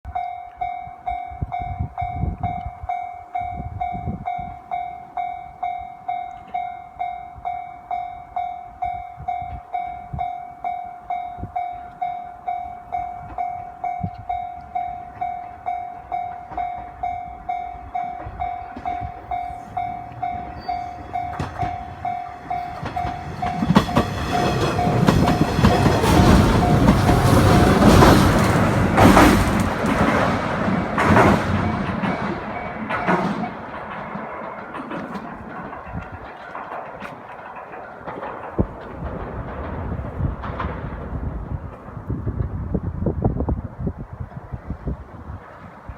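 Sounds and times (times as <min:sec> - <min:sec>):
electric train passing: 0:00.1 - 0:45.9.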